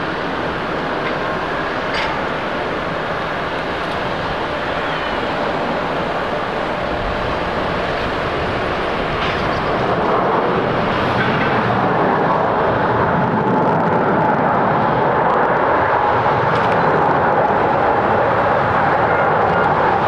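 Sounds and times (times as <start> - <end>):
jet engines roaring: 0.0 - 20.0
thin steady whine: 0.0 - 20.0.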